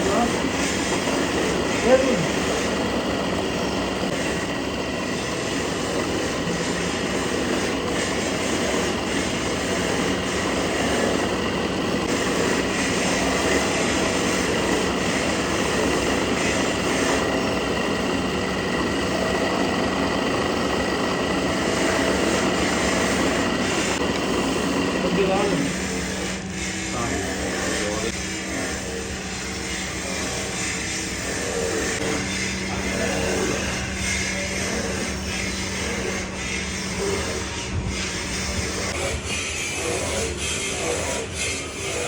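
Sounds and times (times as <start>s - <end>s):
machine humming: 0.0s - 42.0s.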